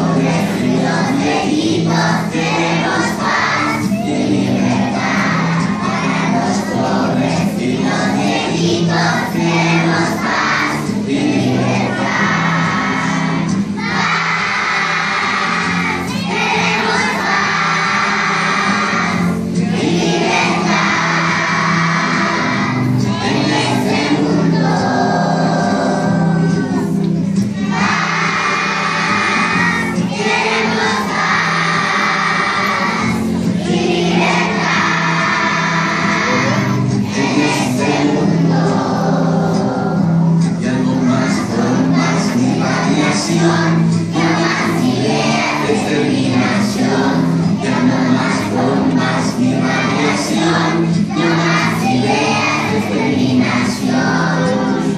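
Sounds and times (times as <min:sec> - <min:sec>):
children singing together: 0:00.0 - 0:54.9
music: 0:00.0 - 0:54.9.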